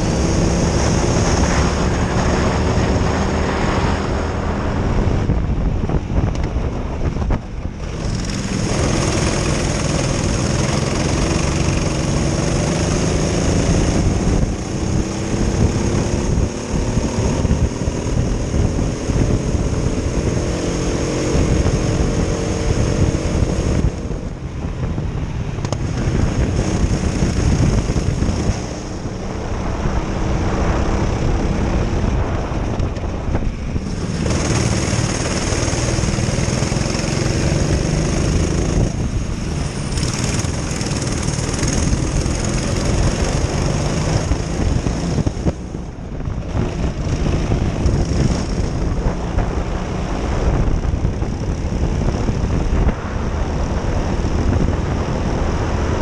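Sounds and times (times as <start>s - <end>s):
kart engines revving: 0.0s - 5.1s, 7.6s - 24.5s, 25.6s - 56.0s.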